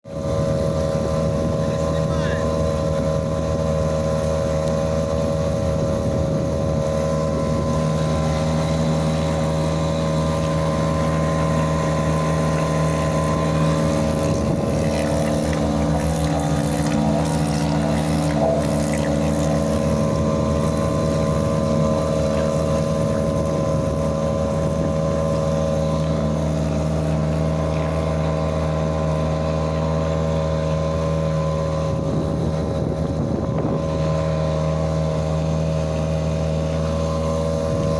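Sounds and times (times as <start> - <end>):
outboard motor running: 0.0 - 37.9
wind noise on microphone: 0.0 - 37.9.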